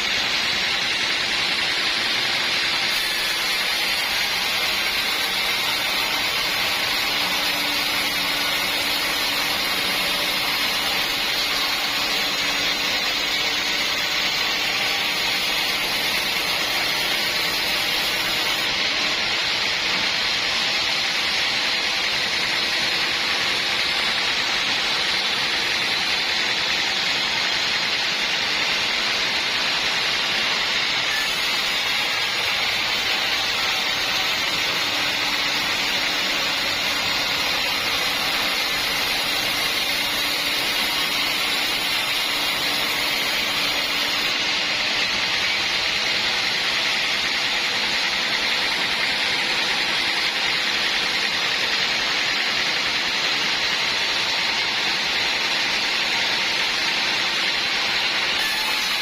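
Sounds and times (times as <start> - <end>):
sawmill machine hissing: 0.0 - 59.0.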